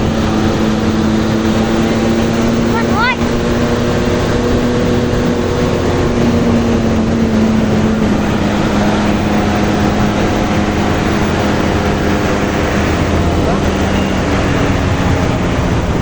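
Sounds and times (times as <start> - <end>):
bus engine running: 0.0 - 16.0
road and wind rumble: 0.0 - 16.0.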